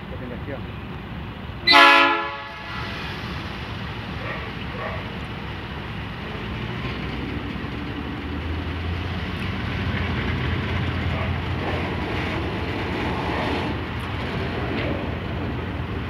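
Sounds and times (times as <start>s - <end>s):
diesel locomotive drone: 0.0s - 16.0s
train wagon rolling past: 0.1s - 16.0s.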